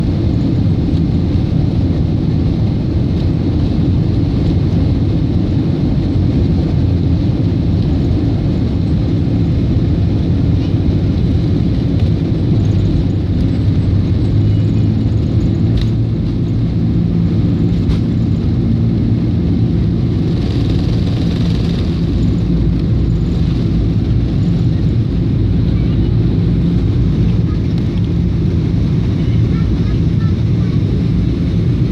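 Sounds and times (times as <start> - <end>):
jet engines rumbling: 0.0 - 31.9.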